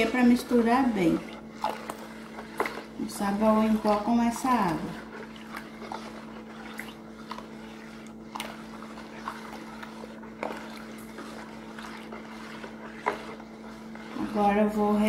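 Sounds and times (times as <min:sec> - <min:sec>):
steady low hum: 0:00.0 - 0:15.0
stick swishing through soapy water: 0:00.0 - 0:15.0.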